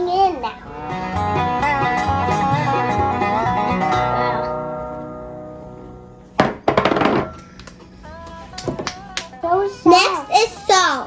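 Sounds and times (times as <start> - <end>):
plucked-string background music: 0.0 - 11.0.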